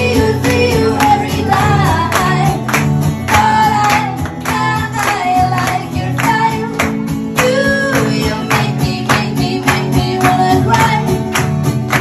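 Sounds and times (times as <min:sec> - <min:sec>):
acoustic guitar strumming: 0:00.0 - 0:12.0
woman singing into a microphone: 0:00.0 - 0:12.0.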